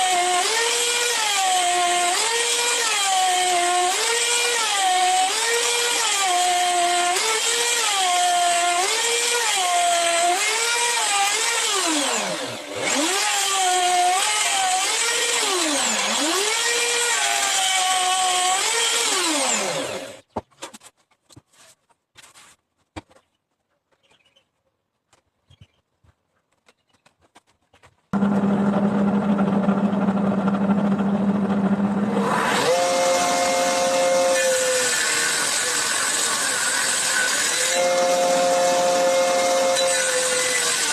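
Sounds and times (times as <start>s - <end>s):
power tool motor running: 0.0s - 20.2s, 28.2s - 40.9s.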